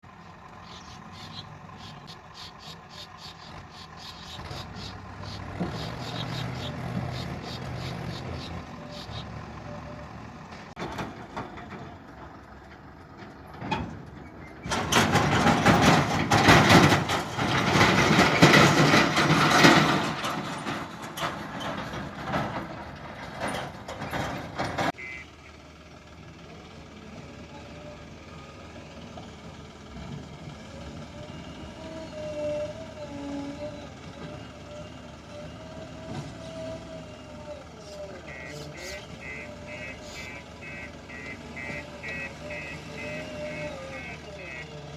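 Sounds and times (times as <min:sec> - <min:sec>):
diesel engines working: 0:00.0 - 0:44.9.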